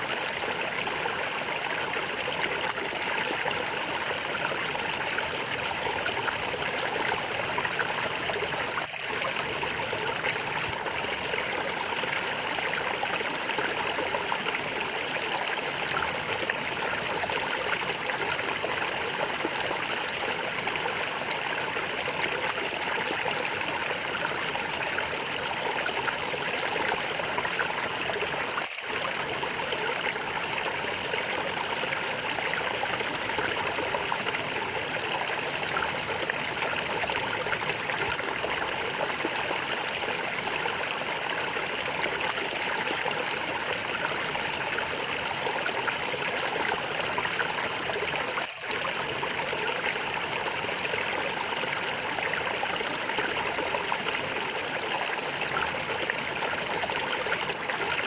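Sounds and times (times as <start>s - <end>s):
stream gurgling: 0.0s - 58.0s.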